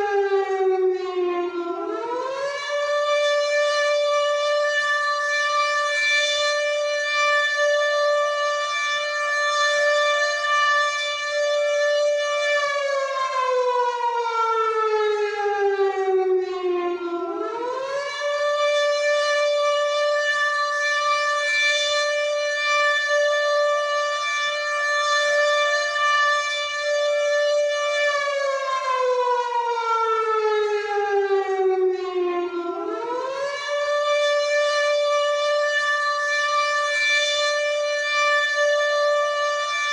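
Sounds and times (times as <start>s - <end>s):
air raid siren wailing: 0.0s - 39.9s.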